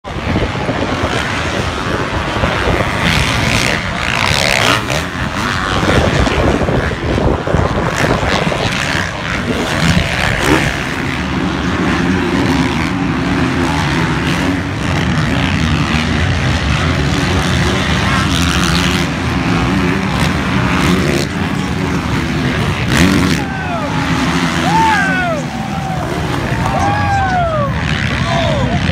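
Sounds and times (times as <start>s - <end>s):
dirt bike engines revving: 0.0s - 28.9s
low engine drone: 0.0s - 28.9s.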